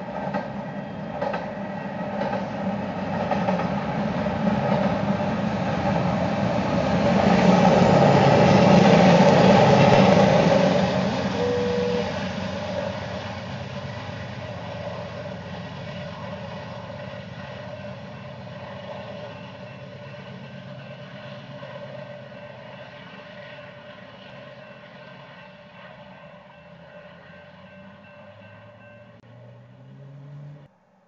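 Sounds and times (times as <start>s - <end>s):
locomotive engines running: 0.0s - 30.5s
wheels rumbling on rails: 0.0s - 30.8s.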